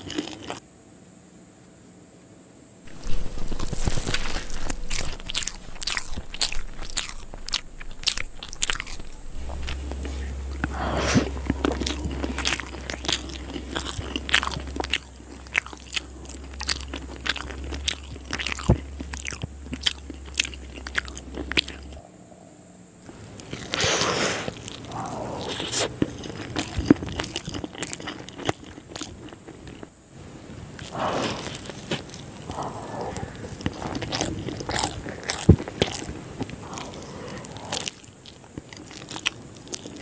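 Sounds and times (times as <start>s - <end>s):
wet chewing and mouth smacks: 0.0s - 0.6s, 2.9s - 22.0s, 23.2s - 29.9s, 30.8s - 40.0s.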